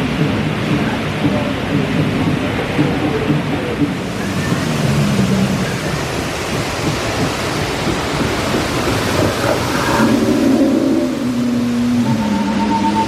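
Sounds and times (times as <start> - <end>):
rushing splashing river rapids: 0.0 - 13.0.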